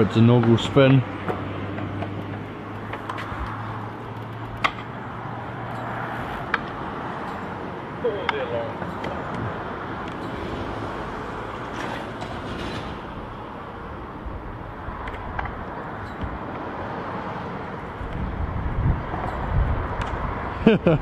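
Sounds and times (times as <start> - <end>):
outdoor street noise: 0.0 - 21.0.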